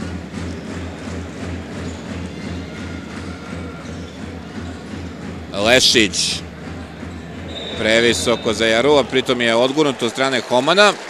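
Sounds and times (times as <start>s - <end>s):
arena crowd noise: 0.0s - 11.0s.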